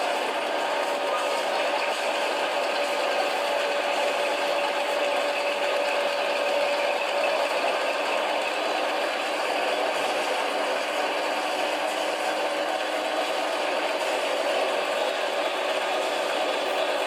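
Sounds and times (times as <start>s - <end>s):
machine noise from conveyors: 0.0s - 17.0s.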